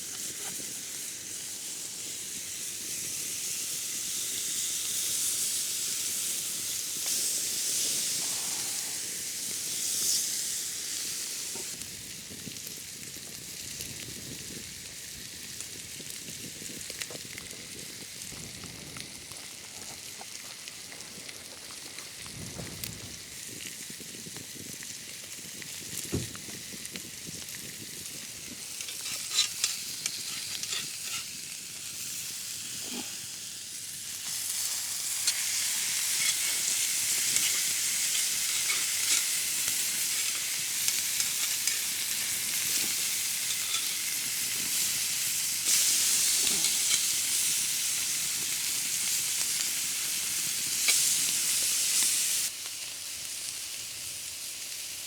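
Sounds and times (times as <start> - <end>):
steak sizzling over fire: 0.0 - 55.0.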